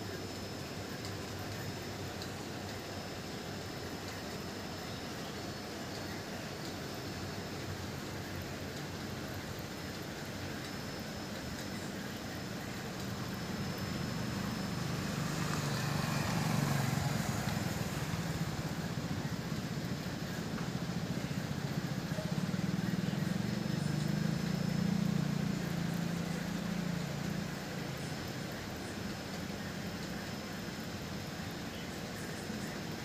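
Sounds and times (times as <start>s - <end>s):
motor vehicle engine hum: 0.0s - 33.0s.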